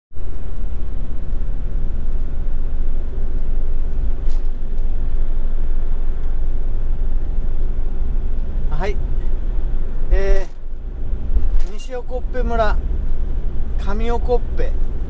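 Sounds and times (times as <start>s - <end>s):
vehicle engine and tyre rumble: 0.1s - 15.0s.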